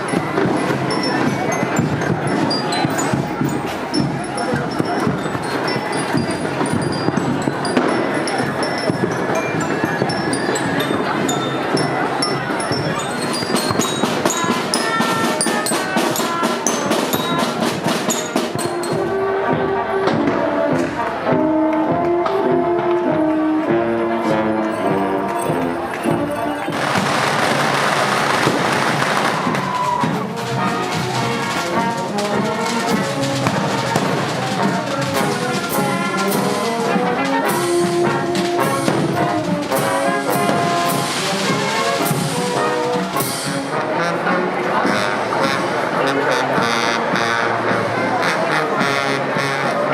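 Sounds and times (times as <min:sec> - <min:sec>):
drums playing fast beat: 0:00.0 - 0:21.5, 0:24.8 - 0:43.7.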